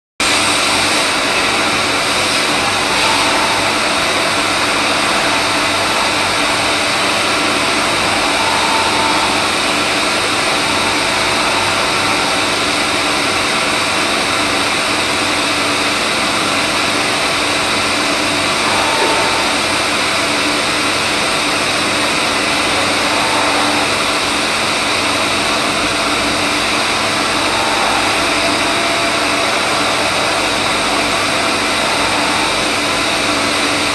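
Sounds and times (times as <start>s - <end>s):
cnc machine running: 0.2s - 33.9s
brief high machine tone: 1.2s - 15.0s, 17.0s - 33.9s.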